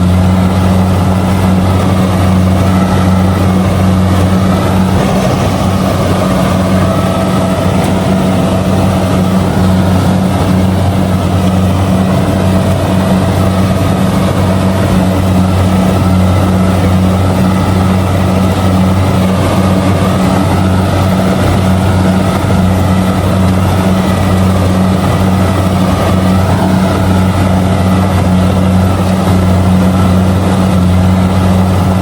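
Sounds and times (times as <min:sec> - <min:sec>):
combine harvester engine drone: 0:00.0 - 0:32.0.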